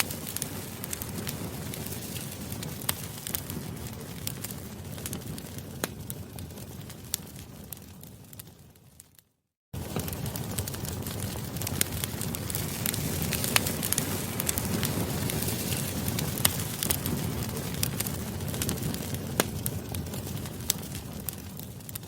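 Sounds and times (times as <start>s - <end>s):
wood fire crackling: 0.0s - 9.2s, 9.8s - 22.0s.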